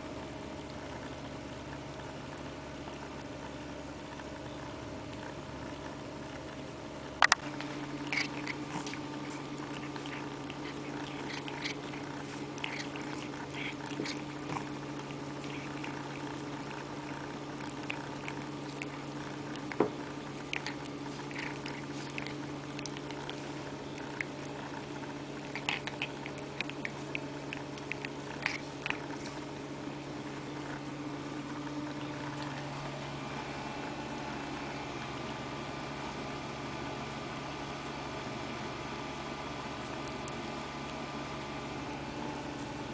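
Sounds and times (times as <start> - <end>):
cat chewing wetly: 0.0 - 42.9
steady low hum: 0.0 - 42.9.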